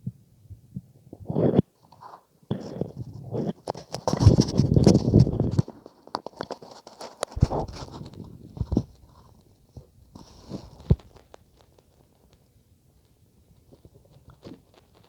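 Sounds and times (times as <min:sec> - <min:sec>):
stomach gurgles and thuds: 0:00.0 - 0:06.6, 0:07.2 - 0:11.9, 0:13.6 - 0:15.0.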